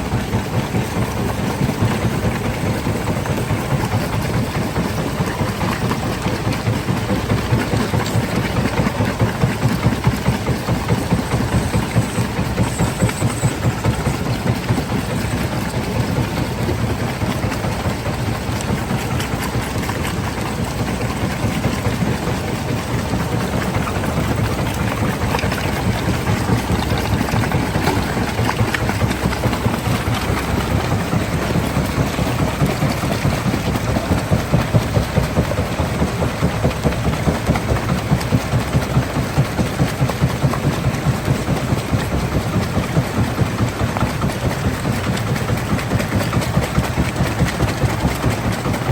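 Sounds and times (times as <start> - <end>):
heavy machinery rumbling: 0.0 - 48.9.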